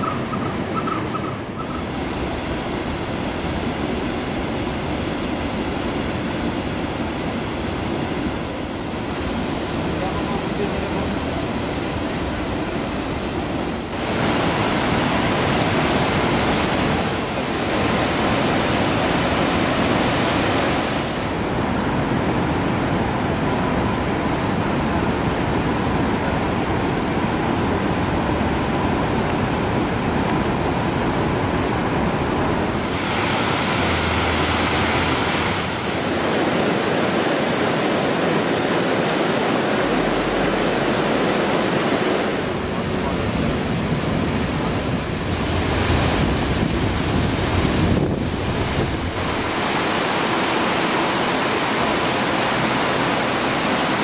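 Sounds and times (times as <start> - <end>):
waterfall and rapids rushing: 0.0 - 54.0.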